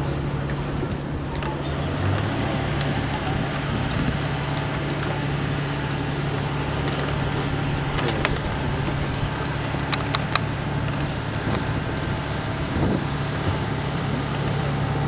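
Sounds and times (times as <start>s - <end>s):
engine running steadily: 0.0s - 15.0s
wind noise on microphone: 0.0s - 15.0s.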